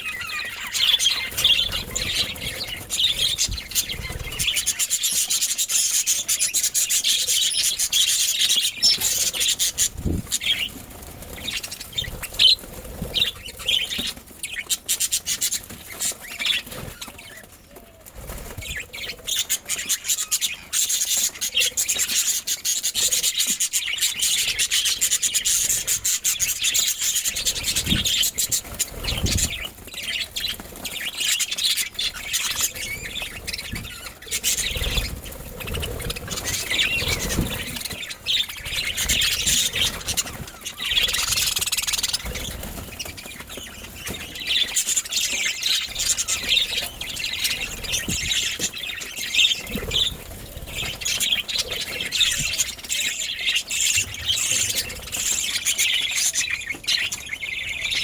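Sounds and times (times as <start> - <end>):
budgerigars chirping: 0.0 - 17.5, 18.6 - 58.0.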